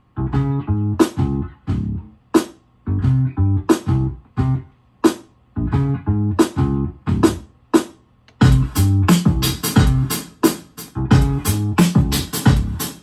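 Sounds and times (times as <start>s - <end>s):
choppy bass and guitar-like beat: 0.0s - 13.0s.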